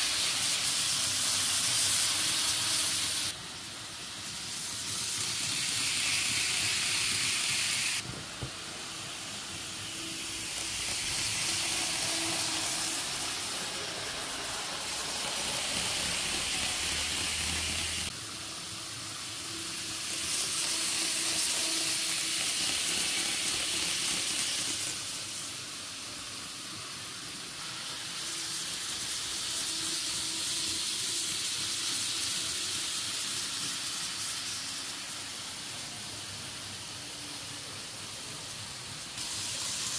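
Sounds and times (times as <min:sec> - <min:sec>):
model trains wheels and motors hissing: 0:00.0 - 0:39.9.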